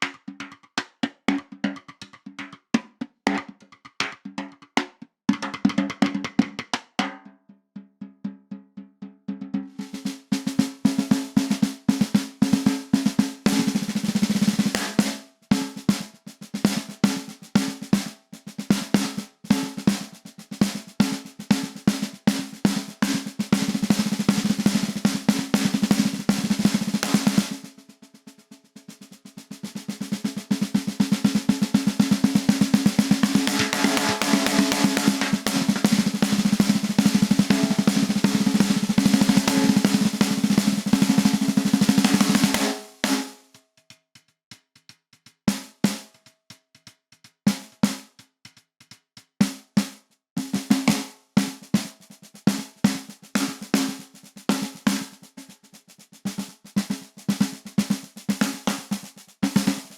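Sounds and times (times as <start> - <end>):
snare drum strokes and rolls: 9.6 - 43.6, 44.2 - 59.9.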